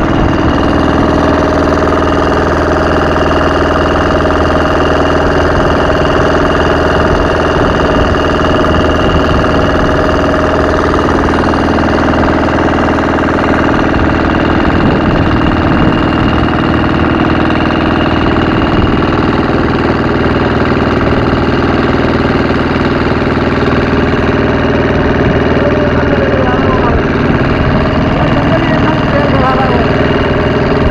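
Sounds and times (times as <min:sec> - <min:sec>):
boat engine running: 0:00.0 - 0:30.9.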